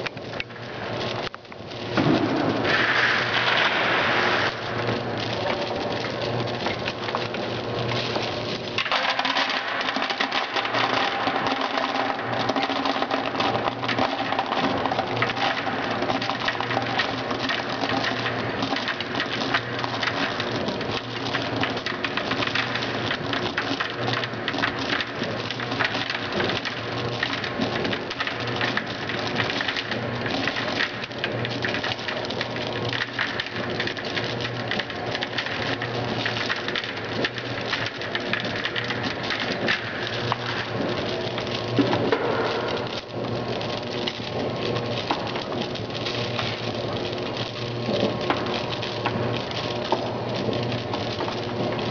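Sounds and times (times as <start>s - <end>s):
low machine hum: 0.0s - 51.9s.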